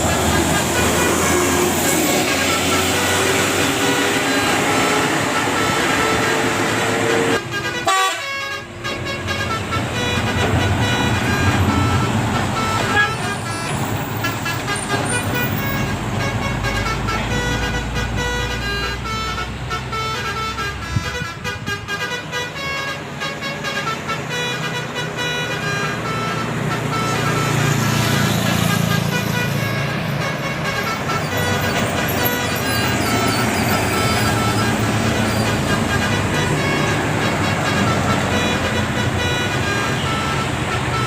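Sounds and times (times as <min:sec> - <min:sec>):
bus engine rumble: 0:00.0 - 0:41.0
multi-tone bus air horn tune: 0:00.0 - 0:41.0.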